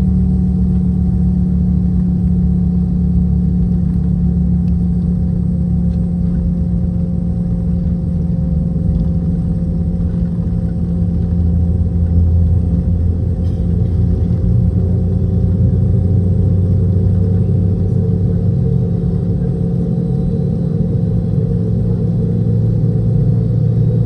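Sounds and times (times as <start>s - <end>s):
jet engines droning in cabin: 0.0s - 24.0s.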